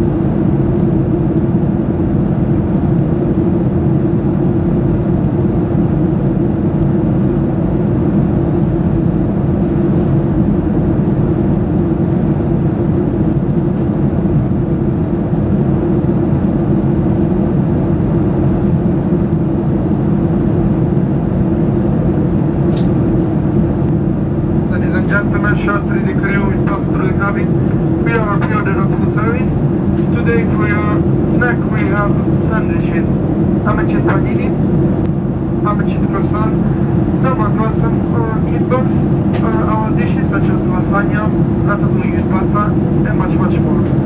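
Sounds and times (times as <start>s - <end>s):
jet engines and airflow drone: 0.0s - 44.0s.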